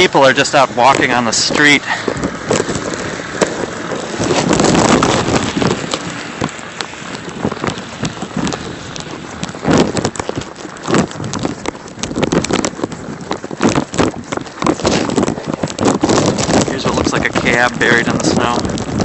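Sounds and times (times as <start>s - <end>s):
boots crunching through snow: 0.0s - 18.6s
wind blowing over microphone: 0.0s - 19.0s.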